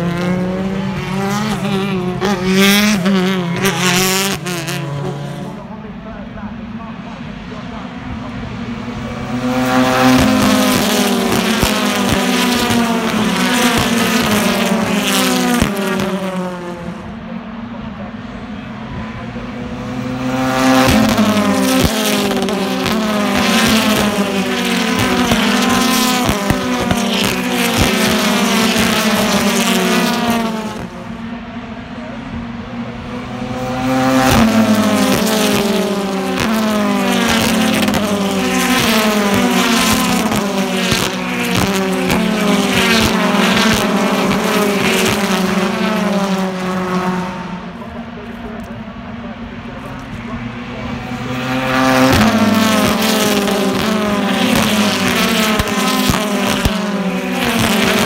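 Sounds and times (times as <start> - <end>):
racing cars passing at full throttle: 0.0 - 58.0.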